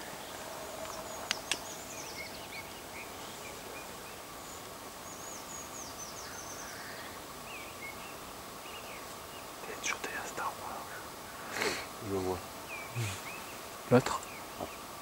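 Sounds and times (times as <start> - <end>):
songbirds chirping: 0.0 - 15.0
steady outdoor hiss: 0.0 - 15.0.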